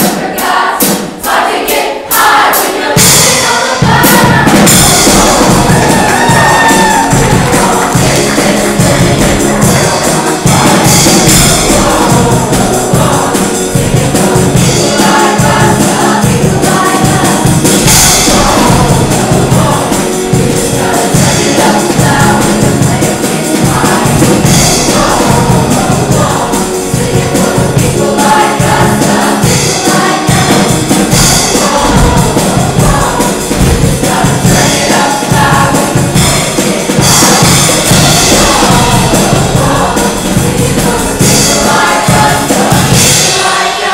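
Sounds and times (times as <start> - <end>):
choir singing: 0.0 - 43.9
loud musical accompaniment: 0.0 - 43.9.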